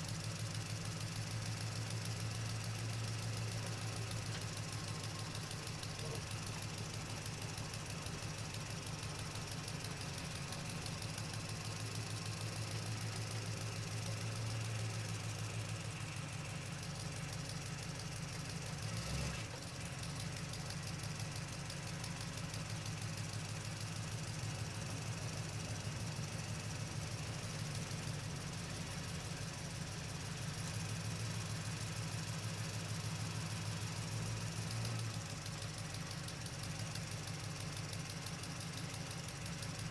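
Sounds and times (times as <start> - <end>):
truck engine running: 0.0 - 18.8, 19.4 - 39.9.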